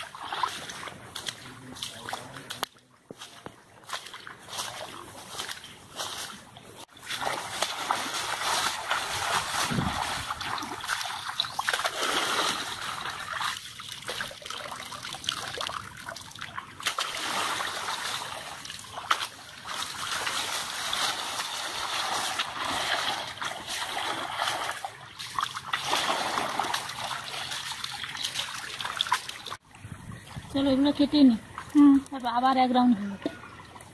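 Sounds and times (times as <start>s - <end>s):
water splashing and sloshing: 0.0s - 33.9s.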